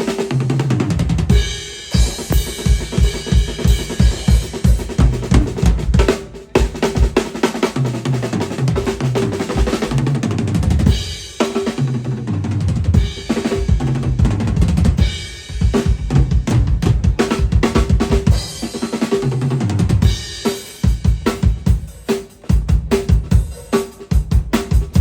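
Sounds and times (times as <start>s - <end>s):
drum kit groove: 0.0s - 25.0s.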